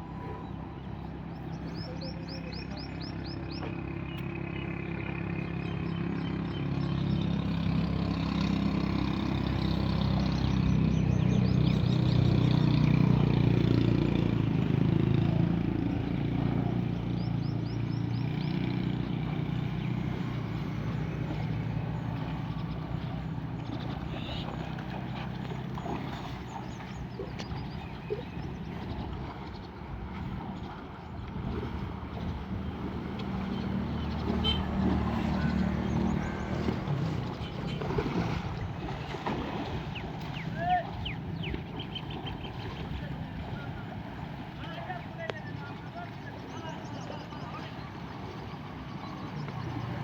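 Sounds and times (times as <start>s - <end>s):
vehicle engine passing slowly: 0.0s - 50.0s
small birds chirping: 0.1s - 38.8s, 39.8s - 50.0s.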